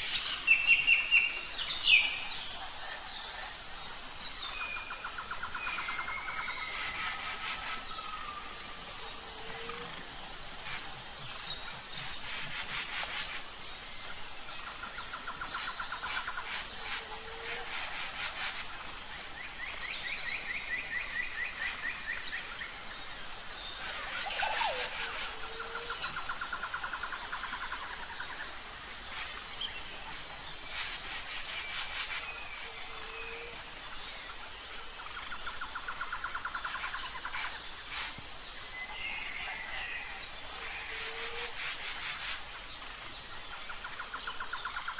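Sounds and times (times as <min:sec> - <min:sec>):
pulsing insect chirping: 0:00.0 - 0:44.9.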